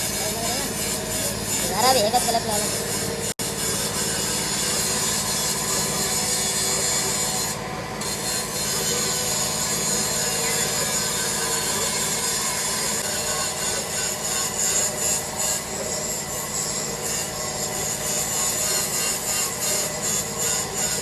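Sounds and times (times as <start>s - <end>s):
metalworking machinery scraping: 0.0s - 21.0s.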